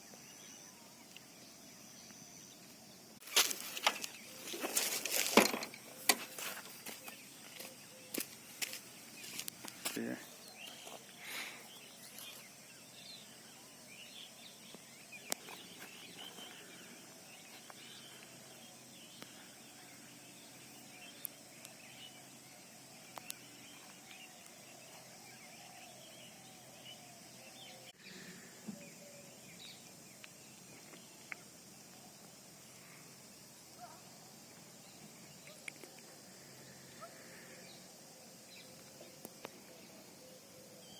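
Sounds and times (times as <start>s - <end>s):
steady low background hiss: 0.0s - 40.9s.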